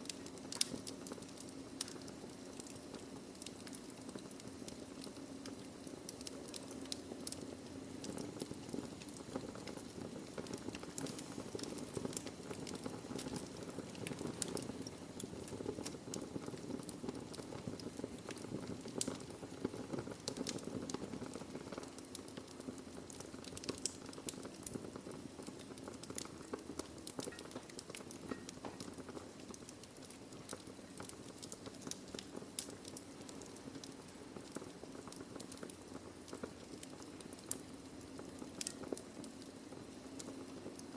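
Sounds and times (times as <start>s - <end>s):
low rush of flame: 0.0s - 40.9s
wood crackling and popping: 0.0s - 40.9s.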